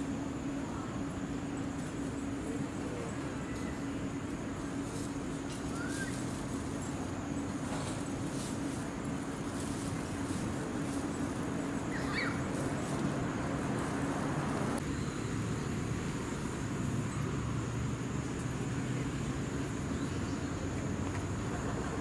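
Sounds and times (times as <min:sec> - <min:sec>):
traffic hum: 0:00.0 - 0:22.0.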